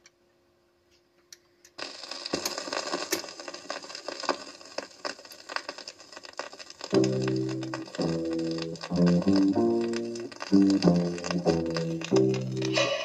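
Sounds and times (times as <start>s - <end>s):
record surface crackles and pops: 1.7s - 13.0s.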